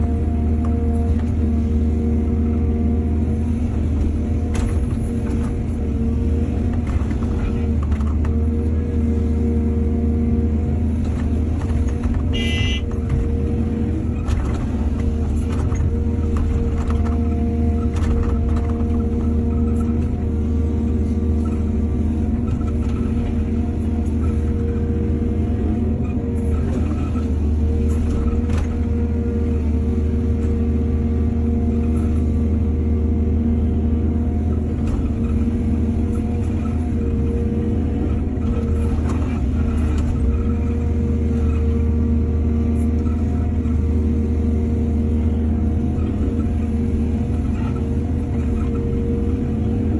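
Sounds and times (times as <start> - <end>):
excavator engine running: 0.0 - 49.9.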